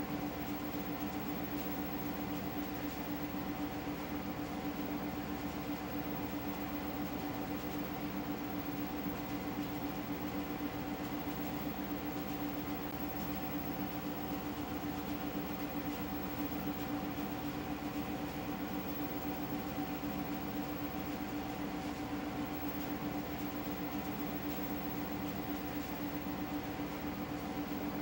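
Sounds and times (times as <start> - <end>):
steady hum and hiss: 0.0 - 28.0.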